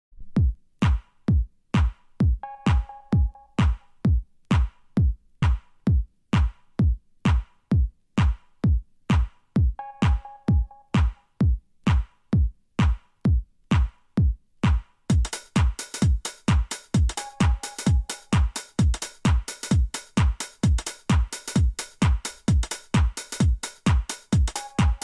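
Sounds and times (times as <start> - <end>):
drum machine kick: 0.3 - 25.0
hi-hat percussion: 0.4 - 25.0.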